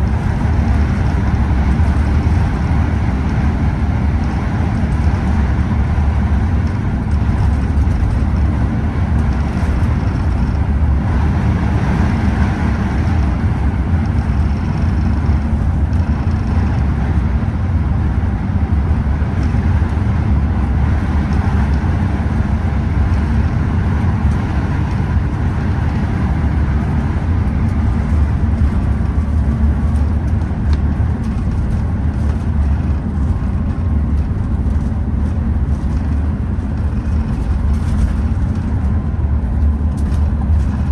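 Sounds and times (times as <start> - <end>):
coach engine rumble: 0.0 - 40.9
road noise: 0.0 - 40.9.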